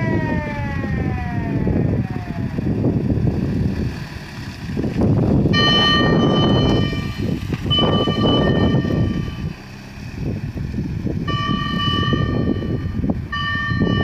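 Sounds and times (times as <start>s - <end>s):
fire engine rumbling: 0.0s - 14.0s.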